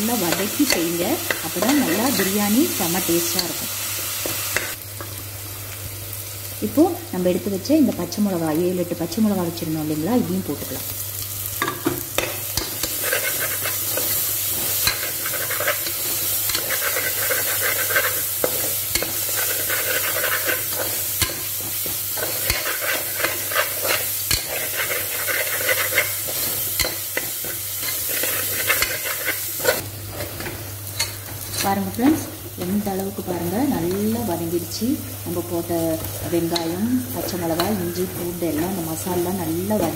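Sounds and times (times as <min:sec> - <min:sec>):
onions sizzling in oil: 0:00.0 - 0:39.9.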